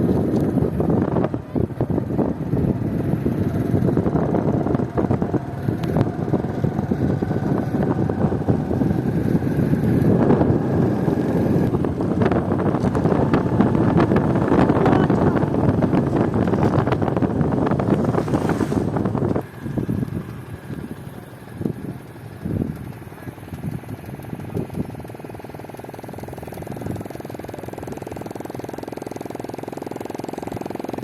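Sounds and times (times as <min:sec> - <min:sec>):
engine running: 0:00.0 - 0:31.0
wind buffeting microphone: 0:00.0 - 0:31.0.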